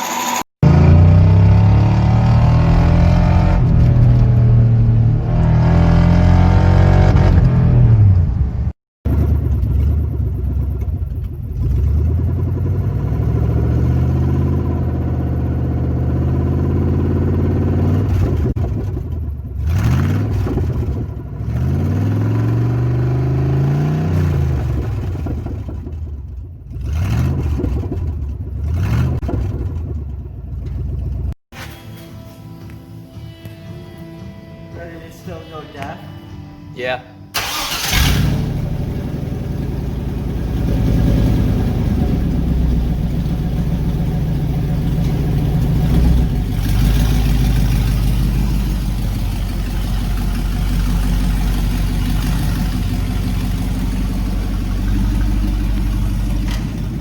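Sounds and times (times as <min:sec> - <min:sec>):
truck engine revving: 0:00.0 - 0:31.4, 0:37.4 - 0:57.0.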